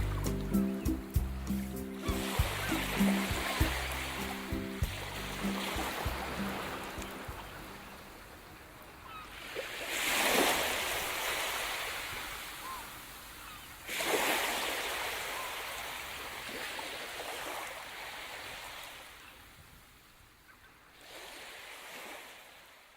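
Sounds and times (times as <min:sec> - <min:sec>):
ocean waves breaking: 0:00.0 - 0:19.3, 0:21.0 - 0:22.8.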